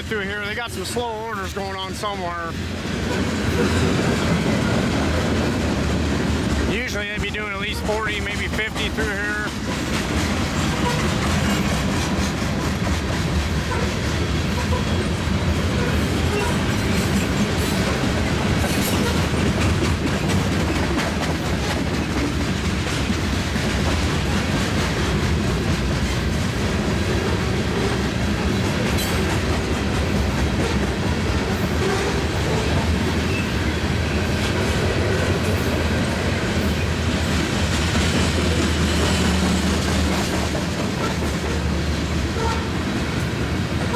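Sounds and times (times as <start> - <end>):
rumble of rolling train cars: 0.0 - 43.9
train wheels clicking over rail joints: 0.0 - 43.9.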